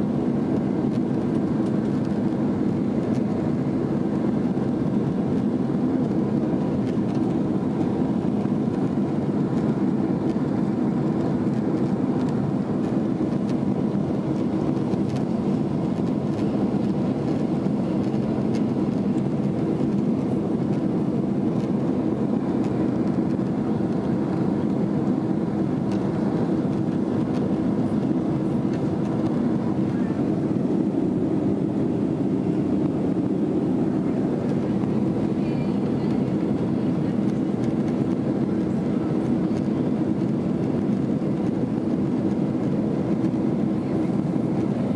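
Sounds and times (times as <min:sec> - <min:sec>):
jet engine cabin roar: 0:00.0 - 0:44.9.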